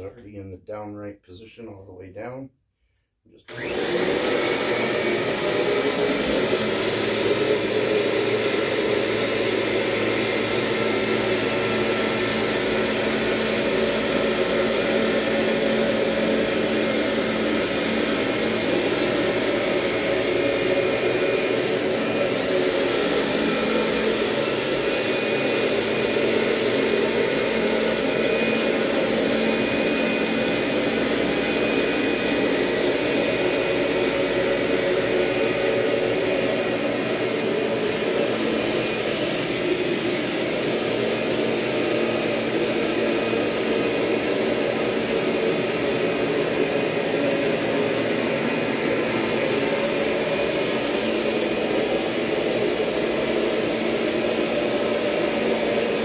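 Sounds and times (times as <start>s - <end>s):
vacuum cleaner running: 3.5s - 56.0s.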